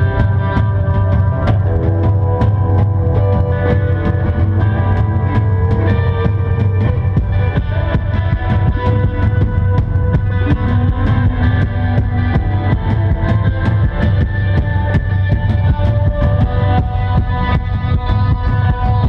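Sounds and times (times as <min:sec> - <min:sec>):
drum kit beat: 0:00.0 - 0:19.0
electric guitars ringing notes: 0:00.0 - 0:19.0.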